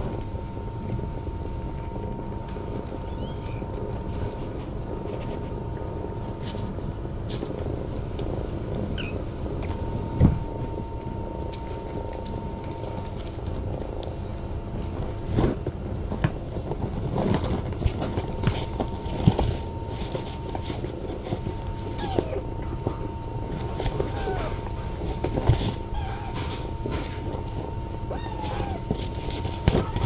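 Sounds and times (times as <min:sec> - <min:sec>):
kittens scuffling on padded floor: 0:00.0 - 0:30.0
low steady hum: 0:00.0 - 0:30.0.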